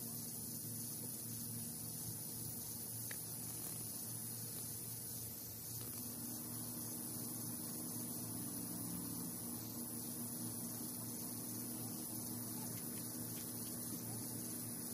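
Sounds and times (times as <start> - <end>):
faint high hiss: 0.0 - 14.9
low hum: 0.0 - 14.9.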